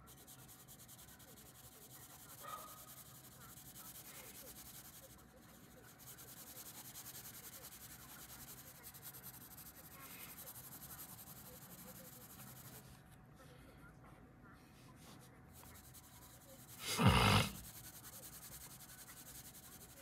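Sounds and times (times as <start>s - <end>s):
pencil scratching on paper: 0.0s - 13.6s, 14.6s - 20.0s.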